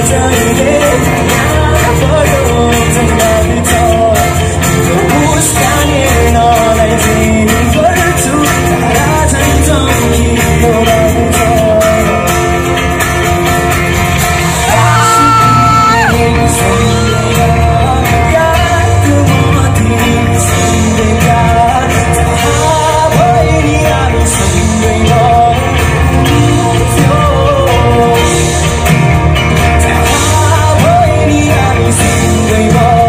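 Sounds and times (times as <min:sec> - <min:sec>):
man singing: 0:00.0 - 0:33.0
rock band playing: 0:00.0 - 0:33.0.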